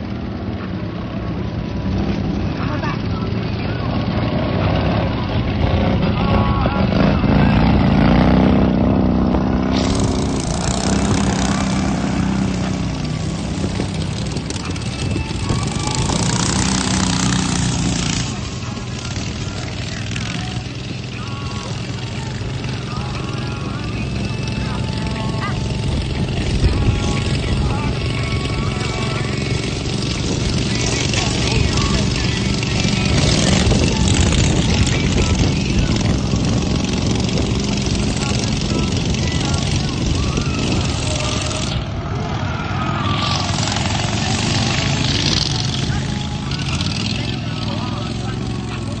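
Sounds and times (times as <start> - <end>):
racing lawn mower engines: 0.0 - 49.0.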